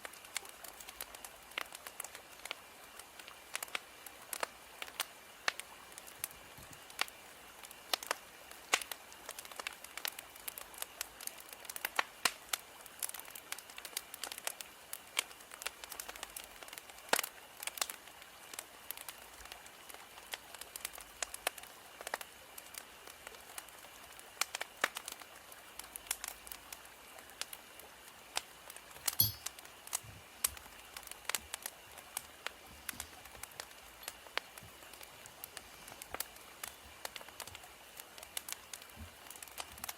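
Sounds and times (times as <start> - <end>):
fire popping and snapping: 0.0 - 39.9
soft hiss: 0.0 - 39.9
wood fire crackling: 0.0 - 39.9.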